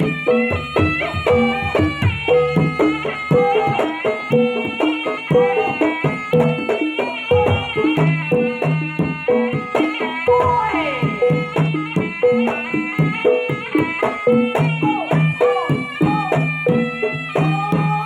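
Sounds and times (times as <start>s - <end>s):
drums: 0.0s - 18.0s
melody bending in pitch: 0.0s - 18.0s
struck pitched percussion: 0.0s - 18.0s.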